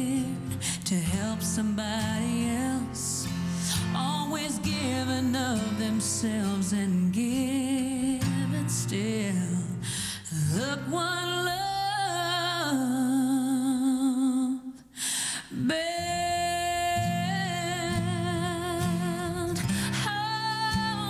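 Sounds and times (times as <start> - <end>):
woman singing country song: 0.0 - 21.0.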